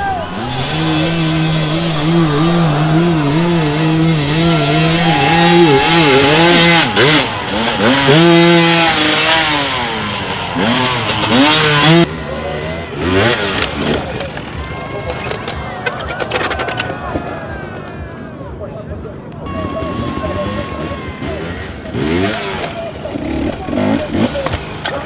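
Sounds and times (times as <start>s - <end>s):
dirt bike engine revving: 0.0s - 15.4s, 19.5s - 25.0s.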